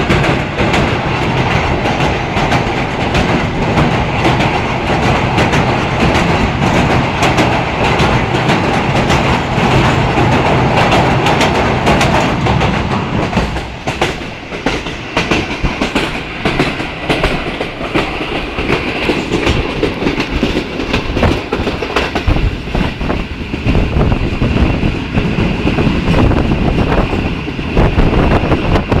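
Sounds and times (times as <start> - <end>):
train rumbling rush: 0.0 - 29.0.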